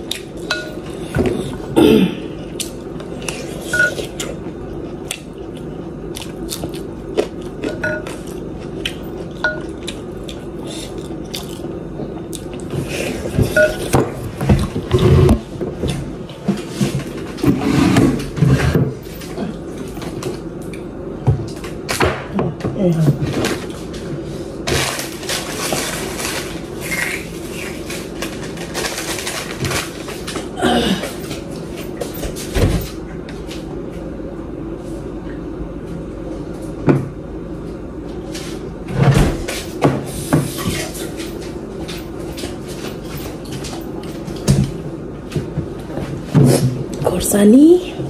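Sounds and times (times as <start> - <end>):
background hum: 0.0 - 48.0.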